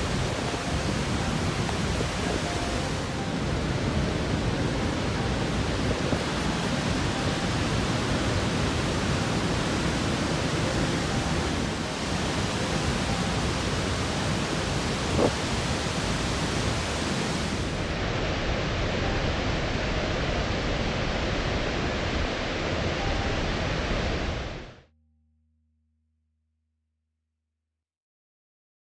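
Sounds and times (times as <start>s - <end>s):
waterfall roaring: 0.0s - 24.7s.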